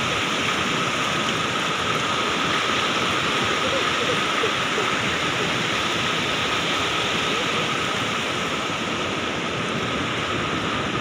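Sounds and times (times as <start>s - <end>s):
sea surf rushing: 0.0s - 11.0s.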